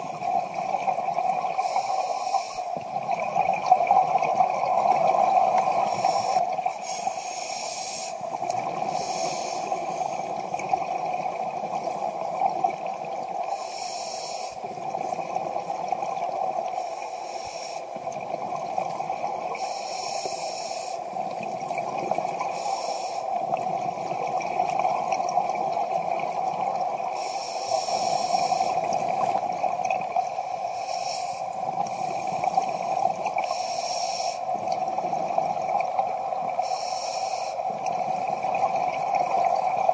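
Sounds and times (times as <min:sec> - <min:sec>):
exhaled bubbles underwater: 0:00.0 - 0:07.2, 0:08.1 - 0:13.6, 0:14.6 - 0:17.1, 0:17.8 - 0:19.7, 0:20.9 - 0:39.9.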